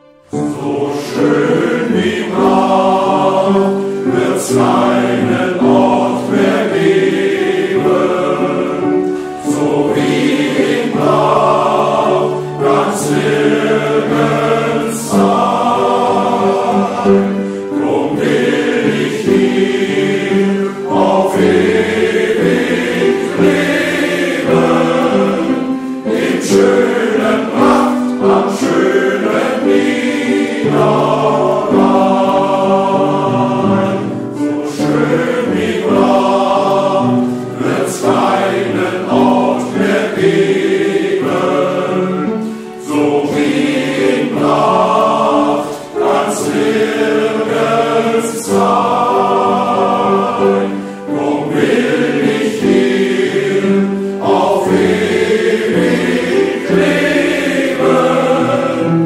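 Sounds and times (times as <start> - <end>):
choir singing: 0.0 - 59.0
instrumental accompaniment: 0.0 - 59.0.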